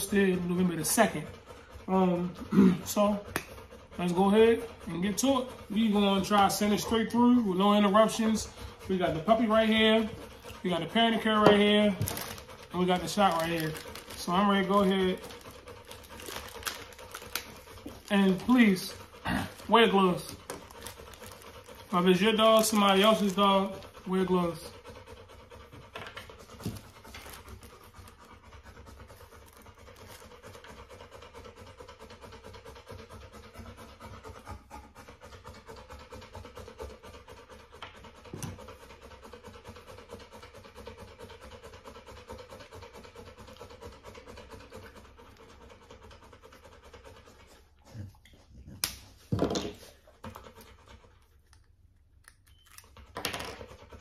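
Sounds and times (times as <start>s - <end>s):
puppy panting: 0.0s - 54.0s.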